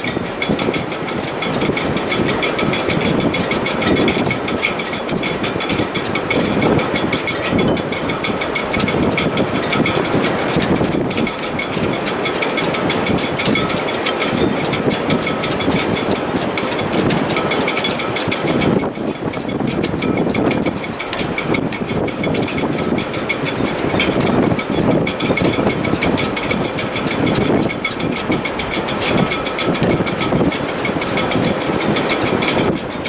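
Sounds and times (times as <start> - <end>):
strong wind in rigging: 0.0 - 33.0.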